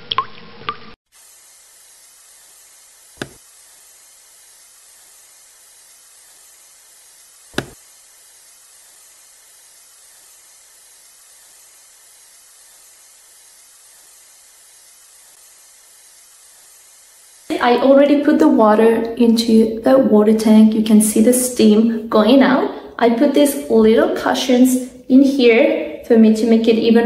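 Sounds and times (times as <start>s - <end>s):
steady hiss: 1.1s - 27.0s.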